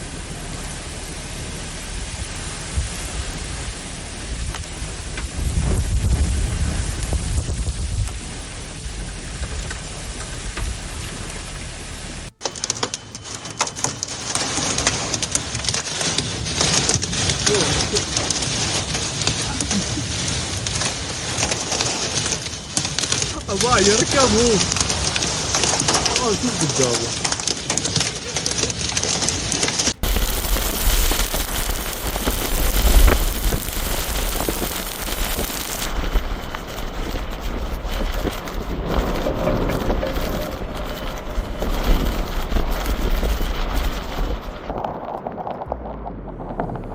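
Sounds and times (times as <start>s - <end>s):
heavy rain on hard surface: 0.0s - 46.9s
low rumble: 0.0s - 46.9s
wind: 0.0s - 46.9s.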